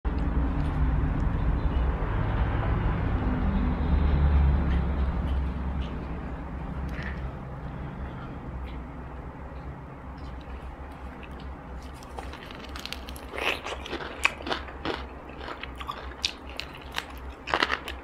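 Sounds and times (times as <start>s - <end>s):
low motor rumble: 0.1s - 15.7s.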